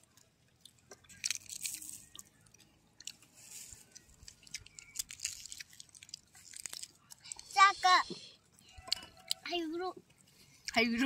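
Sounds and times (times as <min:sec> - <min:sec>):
crunching and chewing salad: 0:00.0 - 0:11.0.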